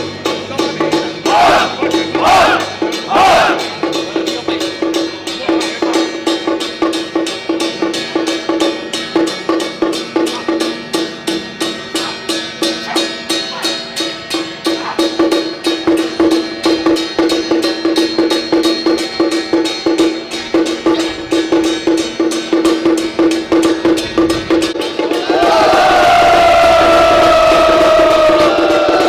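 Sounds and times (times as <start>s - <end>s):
drum and gong percussion: 0.0s - 29.0s.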